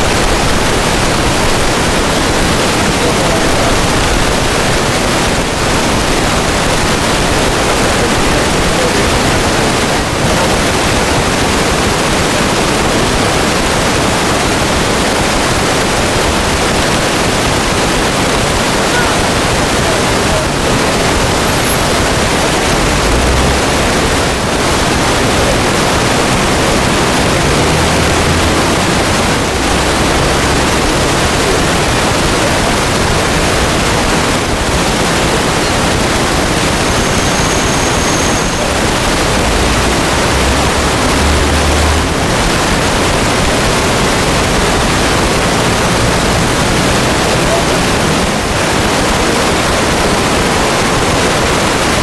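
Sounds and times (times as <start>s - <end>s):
static hiss: 0.0s - 52.0s.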